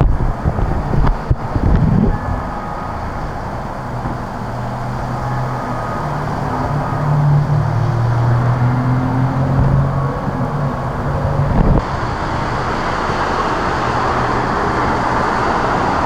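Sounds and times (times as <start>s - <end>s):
constant rushing noise: 0.0s - 16.0s
vehicle engine humming: 0.0s - 16.0s.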